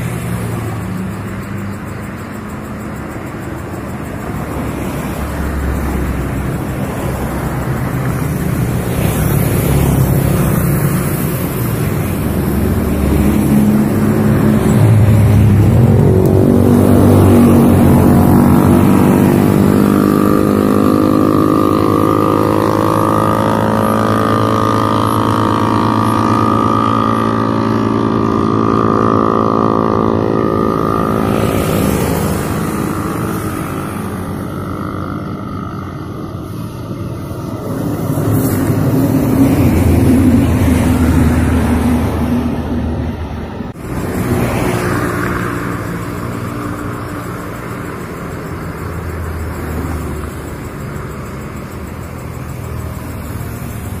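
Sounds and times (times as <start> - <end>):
heavy vehicle engine drone: 0.0 - 54.0
road traffic driving past: 0.0 - 54.0.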